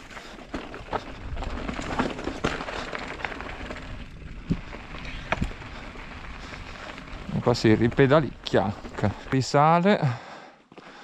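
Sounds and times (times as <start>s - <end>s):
bike rattling over bumps: 0.0s - 9.6s
bike tyres crunching over ground: 0.0s - 9.9s.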